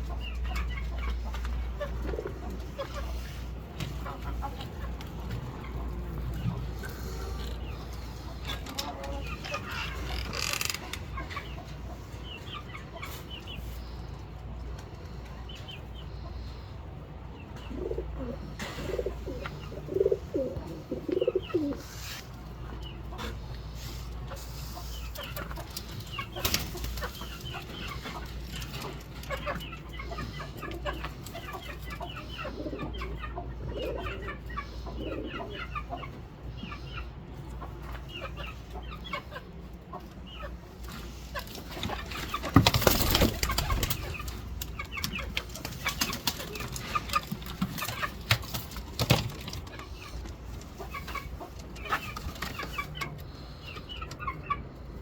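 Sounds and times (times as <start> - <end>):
chickens clucking: 0.0 - 55.0
small birds chirping: 0.0 - 55.0.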